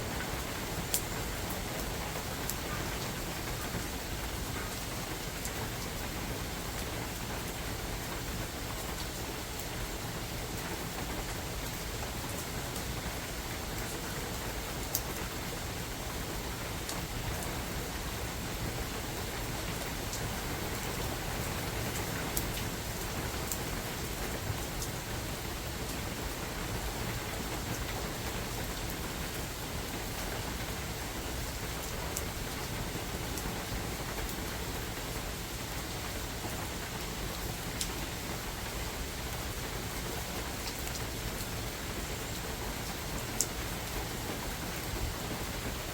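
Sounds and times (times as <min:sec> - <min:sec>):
sharp raindrops: 0:00.0 - 0:45.9
steady rain in forest: 0:00.0 - 0:45.9.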